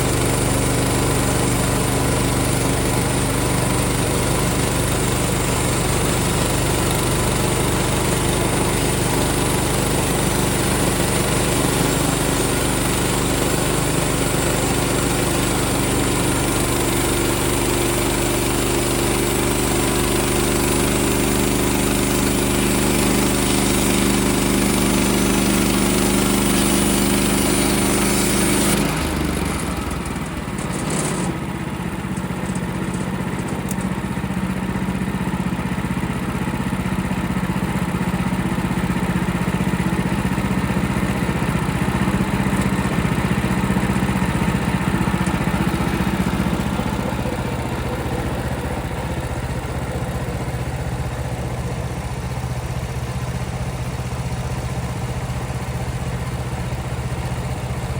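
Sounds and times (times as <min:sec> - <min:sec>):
gas engine running hard: 0:00.0 - 0:57.9.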